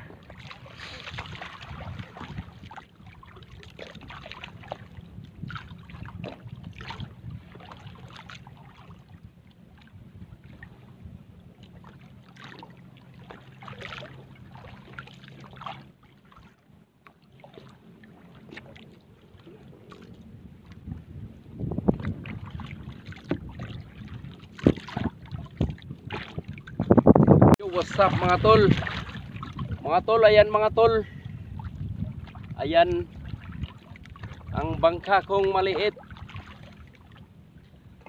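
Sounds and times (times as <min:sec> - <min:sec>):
boat motor running: 0:00.0 - 0:38.0
water splashing against hull: 0:00.0 - 0:38.0.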